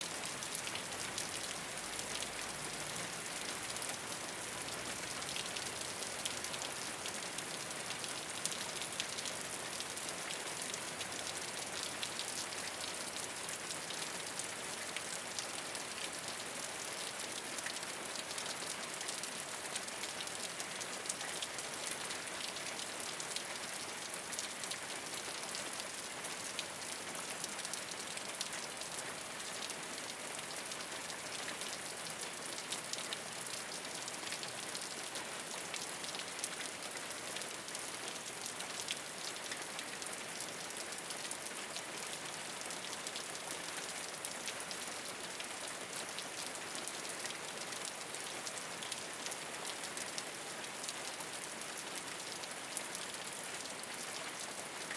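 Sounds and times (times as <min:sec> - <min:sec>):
rain on a rooftop: 0:00.0 - 0:54.9.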